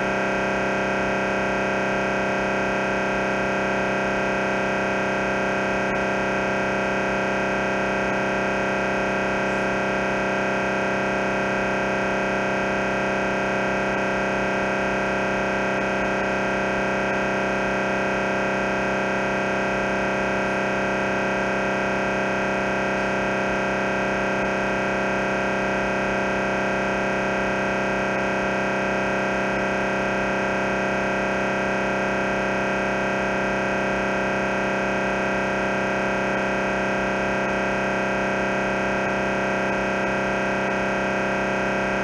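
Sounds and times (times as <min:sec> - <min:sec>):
mri scanner electronic buzz: 0:00.0 - 0:42.0.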